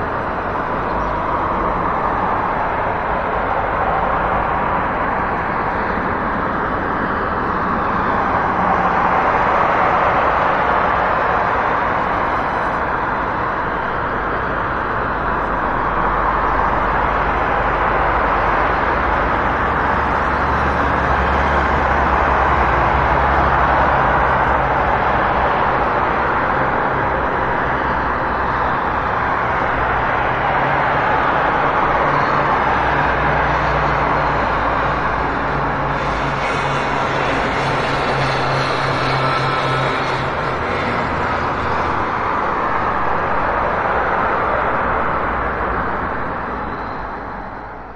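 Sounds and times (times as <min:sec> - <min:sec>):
passing vehicles: 0:00.0 - 0:47.9
road traffic: 0:00.0 - 0:47.9.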